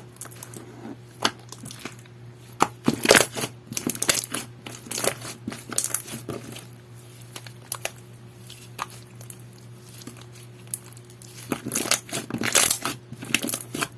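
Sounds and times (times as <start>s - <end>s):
faint steady hum: 0.0s - 13.9s.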